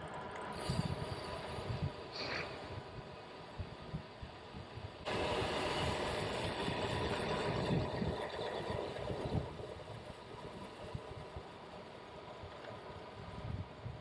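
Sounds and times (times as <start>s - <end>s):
wind on microphone: 0.5s - 11.6s, 12.4s - 14.0s.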